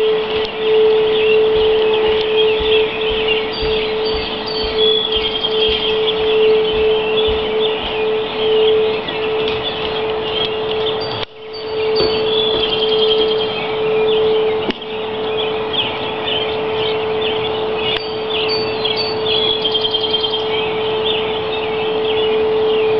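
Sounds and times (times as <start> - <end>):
birds chirping: 0.0 - 22.9
steady single-pitched hum: 0.0 - 22.9.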